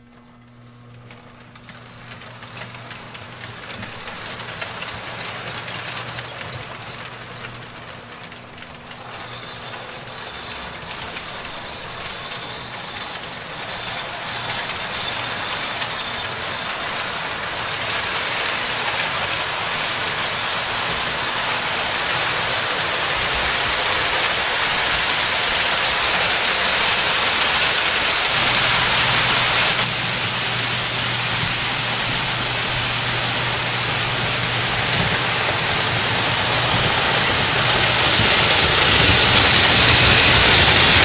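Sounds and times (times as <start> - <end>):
toy train wheels rattling: 1.4 - 30.0, 31.3 - 41.0.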